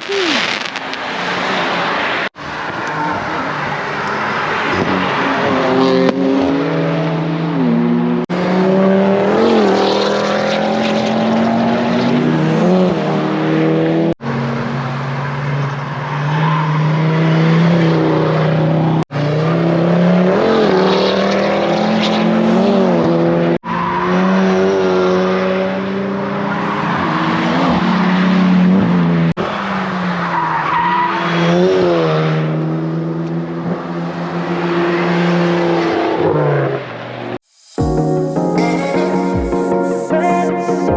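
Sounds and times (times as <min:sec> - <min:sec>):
car engines revving: 0:00.8 - 0:37.4.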